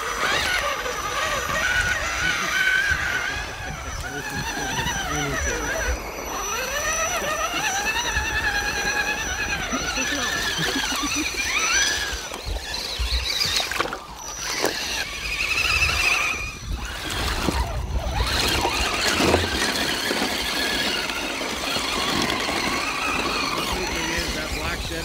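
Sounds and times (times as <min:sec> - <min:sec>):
electric toy truck motors whining: 0:00.0 - 0:25.0
wheels spinning through mud: 0:00.0 - 0:25.0.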